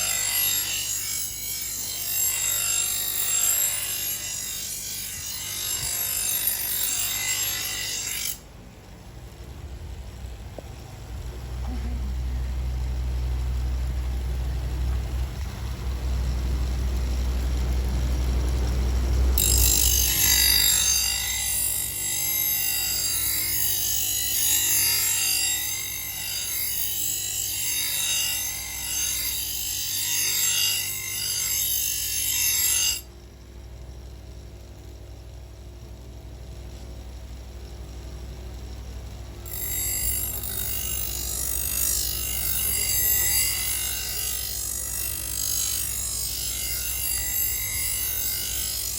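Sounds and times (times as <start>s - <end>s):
knife grinder motor hum: 0.0s - 48.9s.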